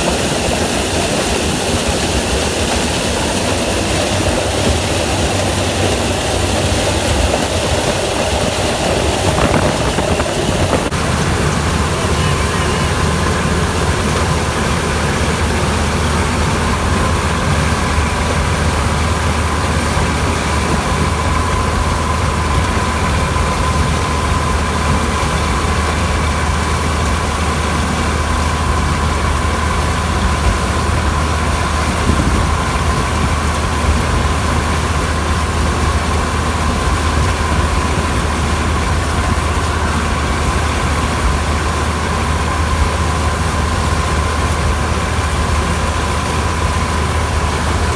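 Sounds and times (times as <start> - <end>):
combine harvester engine drone: 0.0 - 47.9
high machinery whine: 0.0 - 47.9.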